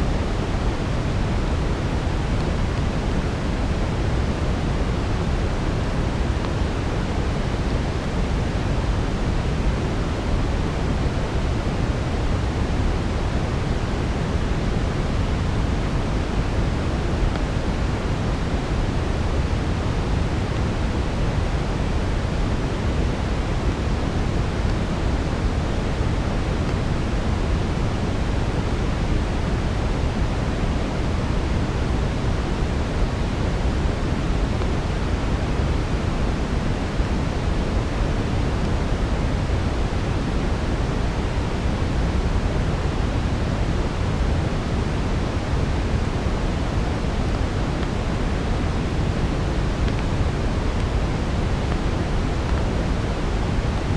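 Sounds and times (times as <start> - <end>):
brown noise: 0.0 - 53.9.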